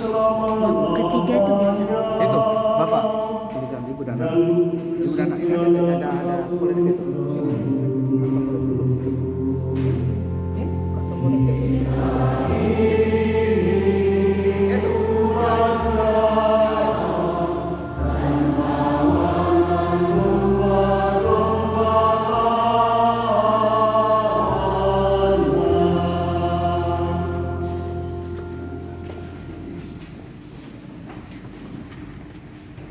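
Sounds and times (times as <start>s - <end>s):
group singing a hymn: 0.0s - 3.6s, 4.2s - 10.3s, 11.1s - 28.8s.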